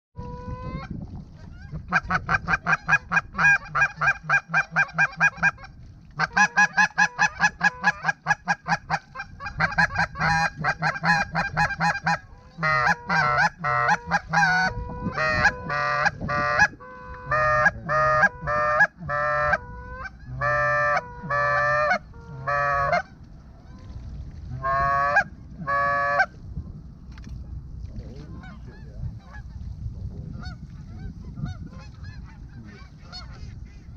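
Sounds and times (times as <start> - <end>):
low wind rumble: 0.2 - 33.9
goose honking: 1.5 - 23.8, 24.6 - 26.3, 30.4 - 33.9.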